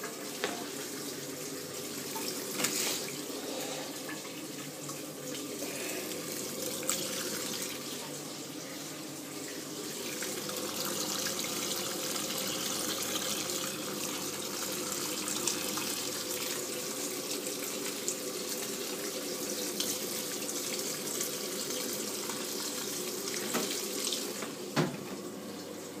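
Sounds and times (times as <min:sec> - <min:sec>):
washing machine water rushing: 0:00.0 - 0:26.0.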